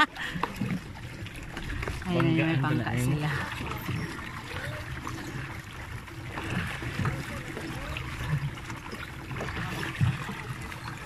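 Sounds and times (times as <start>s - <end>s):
water lapping and churning: 0.0s - 11.0s.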